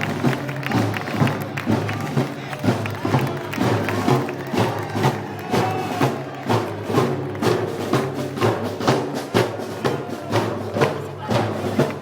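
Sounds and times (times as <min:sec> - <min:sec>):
live band playing: 0:00.0 - 0:12.0
steady percussion beat: 0:00.0 - 0:12.0.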